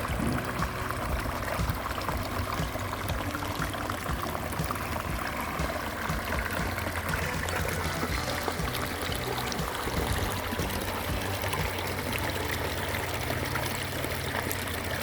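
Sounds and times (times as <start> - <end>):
waterfall splashing over stones: 0.0 - 15.0.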